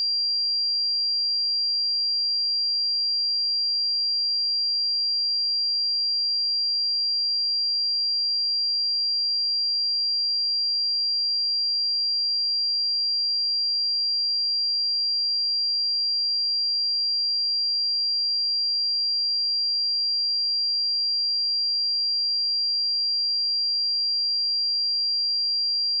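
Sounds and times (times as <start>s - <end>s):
sine-wave test tone: 0.0s - 26.0s.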